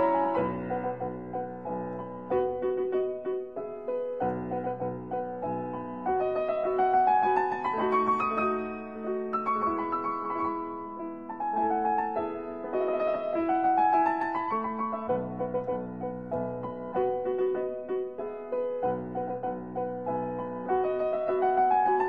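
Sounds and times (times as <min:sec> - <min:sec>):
piano melody with quick runs: 0:00.0 - 0:22.0.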